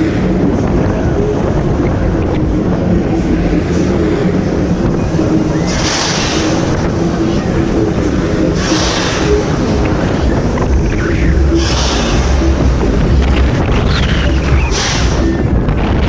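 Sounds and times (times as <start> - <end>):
ride machinery droning hum: 0.0 - 16.0.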